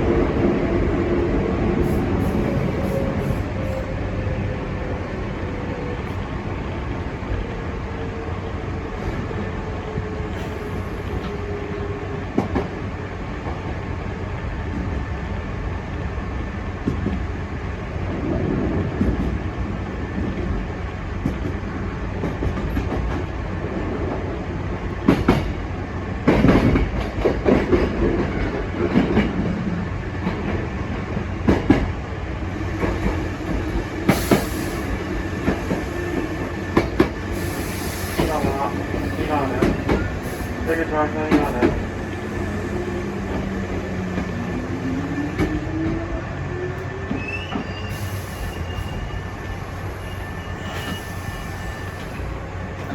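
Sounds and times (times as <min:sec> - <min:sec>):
electric train rumble: 0:00.0 - 0:52.9.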